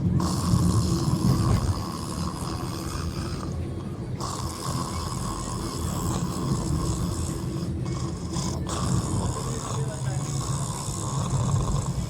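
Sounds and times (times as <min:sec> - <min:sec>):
person snoring: 0:00.1 - 0:12.0.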